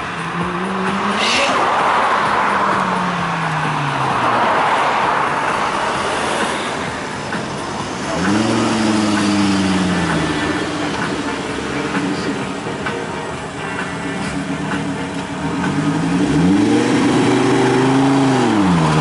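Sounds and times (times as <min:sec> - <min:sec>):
turbocharged car engine revving: 0:00.0 - 0:13.5, 0:14.2 - 0:19.0.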